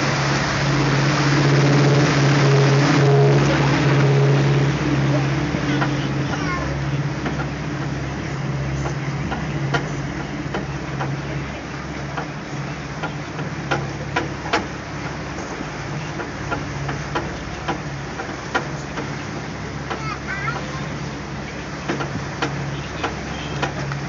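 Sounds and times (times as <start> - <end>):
boat engine humming: 0.0 - 24.0.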